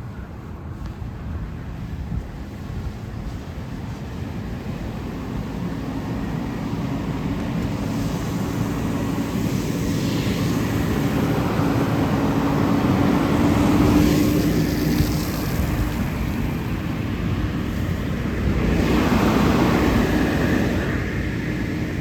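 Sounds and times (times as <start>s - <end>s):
broad rushing noise: 0.0s - 22.0s
fire engine droning: 0.0s - 22.0s.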